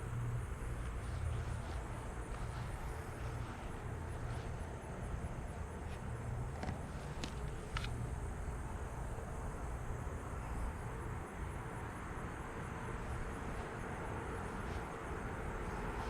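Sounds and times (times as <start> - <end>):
insects chirring: 0.0 - 16.0
low steady rumble: 0.0 - 16.0.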